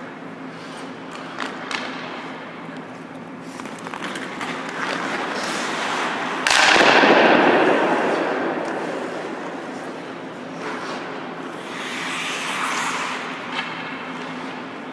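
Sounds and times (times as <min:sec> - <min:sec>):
skate blades scraping ice: 0:00.5 - 0:14.9.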